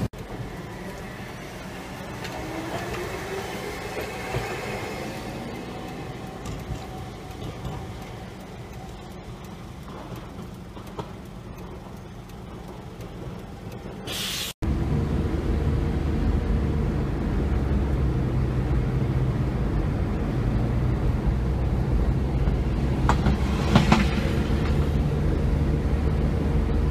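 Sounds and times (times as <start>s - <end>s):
faint street traffic: 0.0s - 26.9s
vehicle interior rumble: 0.0s - 26.9s.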